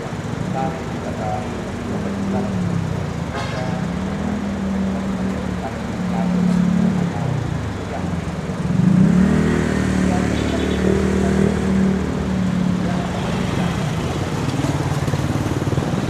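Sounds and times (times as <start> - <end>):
vehicle engines in traffic: 0.0 - 16.0.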